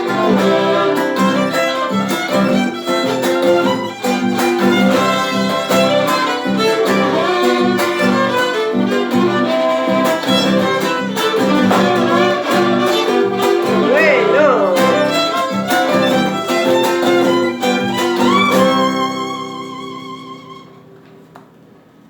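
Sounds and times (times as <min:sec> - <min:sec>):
bowed violin melody: 0:00.0 - 0:20.8
strummed guitar: 0:00.0 - 0:21.2.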